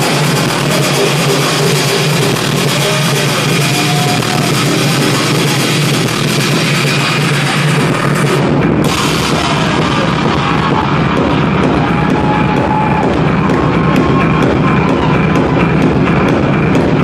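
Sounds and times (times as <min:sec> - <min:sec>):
loud techno music: 0:00.0 - 0:17.0.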